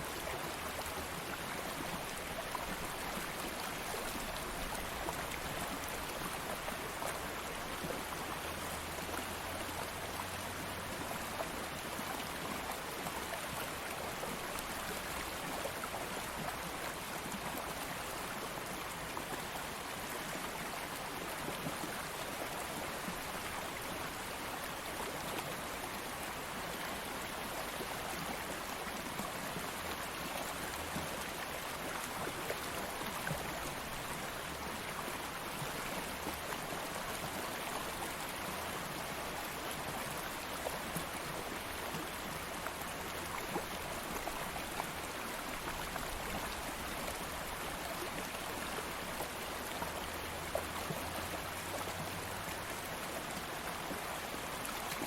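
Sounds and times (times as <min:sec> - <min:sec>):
stream of water flowing: 0:00.0 - 0:55.0.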